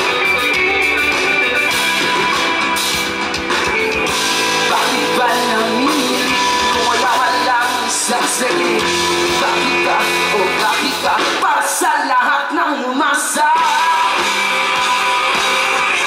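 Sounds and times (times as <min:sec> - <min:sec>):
bass guitar: 0:00.0 - 0:12.6, 0:13.2 - 0:16.0
drums: 0:00.0 - 0:16.0
electric guitars: 0:00.0 - 0:16.0.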